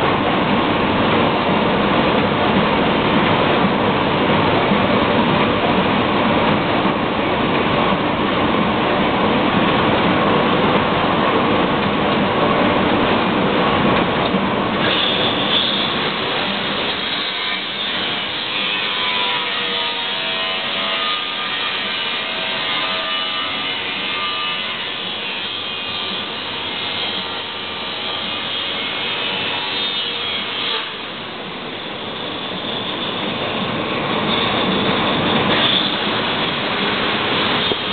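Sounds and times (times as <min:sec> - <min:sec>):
printing press clatter and whir: 0:00.0 - 0:37.9.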